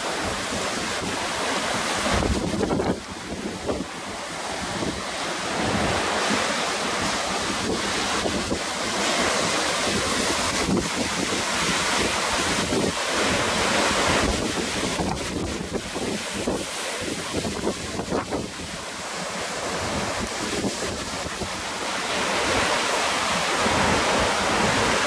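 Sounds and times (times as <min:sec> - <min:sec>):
wind buffeting microphone: 0:00.0 - 0:19.0, 0:19.6 - 0:21.7
surf breaking on beach: 0:00.0 - 0:25.0.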